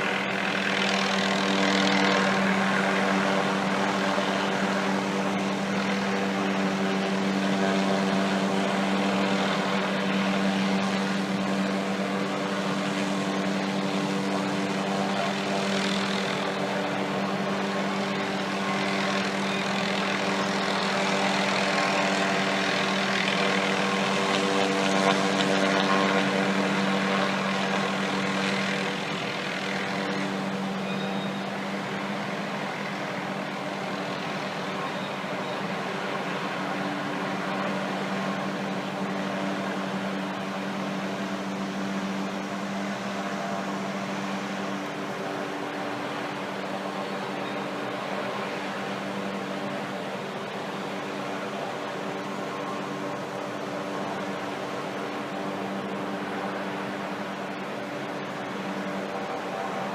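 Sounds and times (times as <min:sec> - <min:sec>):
helicopter engine and rotors: 0:00.0 - 0:59.9.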